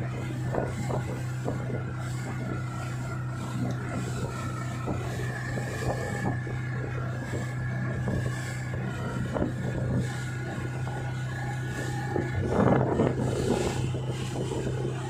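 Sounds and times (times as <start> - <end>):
outboard motor running: 0.0 - 15.0
water splashing in wake: 0.0 - 15.0.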